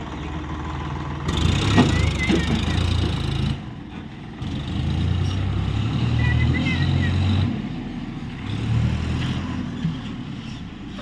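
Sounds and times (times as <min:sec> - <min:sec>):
diesel engine revving under load: 0:00.0 - 0:11.0.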